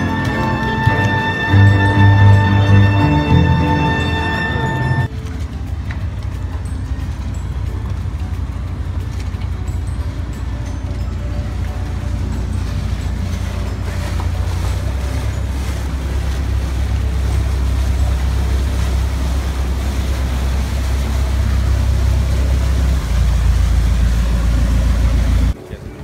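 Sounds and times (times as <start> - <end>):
boat engine rumble: 0.0 - 26.0
water rushing: 0.0 - 26.0.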